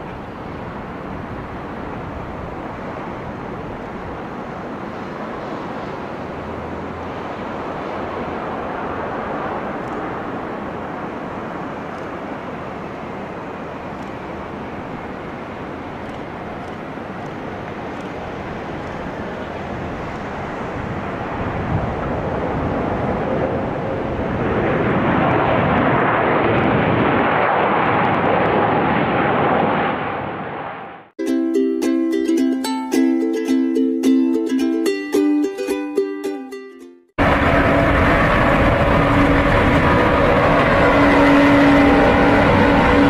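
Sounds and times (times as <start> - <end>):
jet engines of landing plane: 0.0 - 31.1, 37.2 - 43.0.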